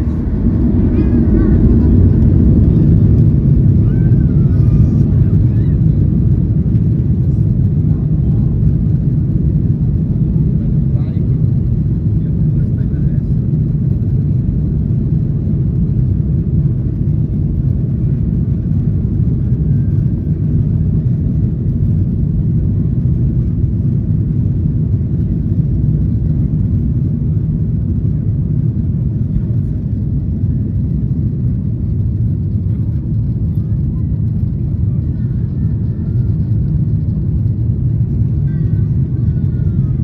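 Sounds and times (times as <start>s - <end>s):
jet engines rumbling in cabin: 0.0s - 40.0s.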